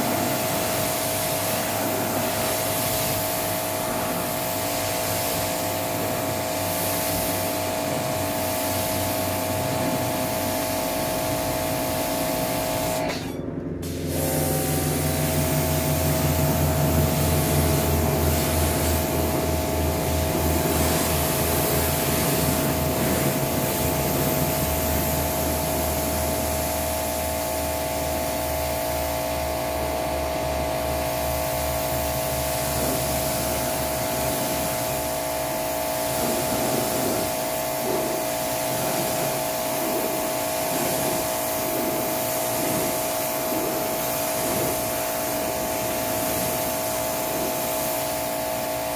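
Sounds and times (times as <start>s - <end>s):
water jet hissing: 0.0s - 13.1s, 13.8s - 48.9s
pressure washer motor whine: 0.0s - 48.9s.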